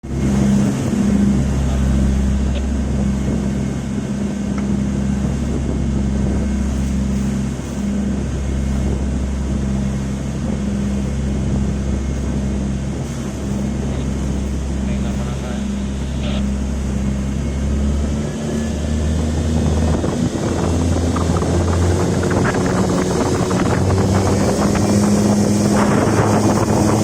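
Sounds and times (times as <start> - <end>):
boat engine droning: 0.0 - 27.0
humming tone: 0.0 - 27.0.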